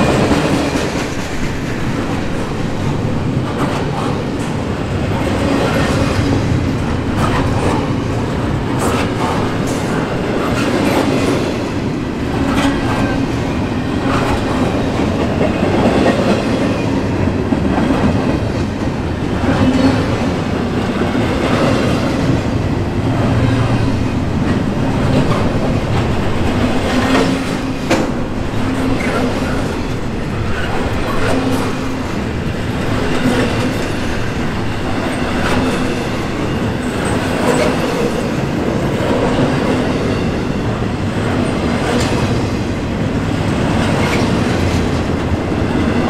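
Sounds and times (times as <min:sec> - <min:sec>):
train wheels clacking: 0:00.0 - 0:46.0
train wheels rumbling on rail: 0:00.0 - 0:46.0.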